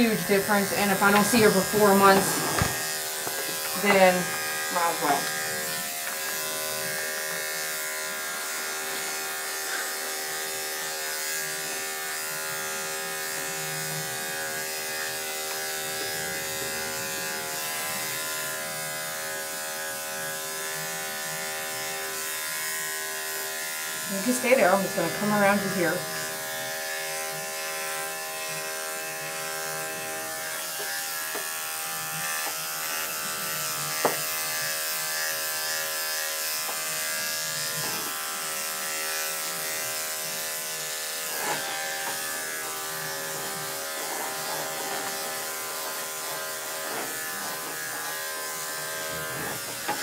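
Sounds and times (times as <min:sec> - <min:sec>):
electric clipper humming: 0:00.0 - 0:50.0.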